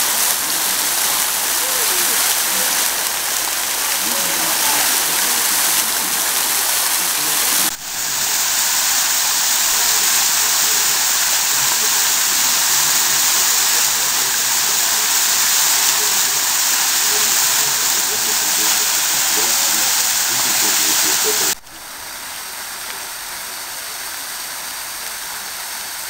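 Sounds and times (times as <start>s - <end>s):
fountain water splashing: 0.0s - 26.0s
water spilling over ledges: 0.0s - 26.0s.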